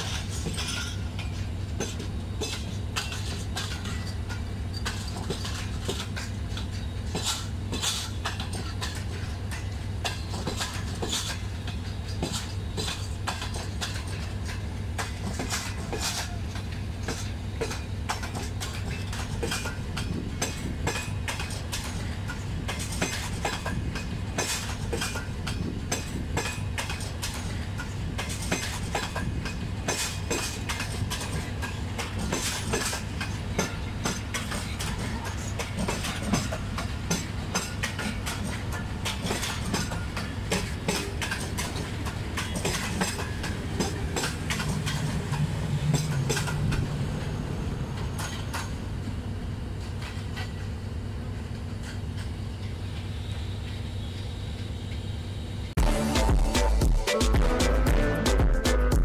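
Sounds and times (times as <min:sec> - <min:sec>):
train wheels clicking over rail joints: 0:00.0 - 0:55.8.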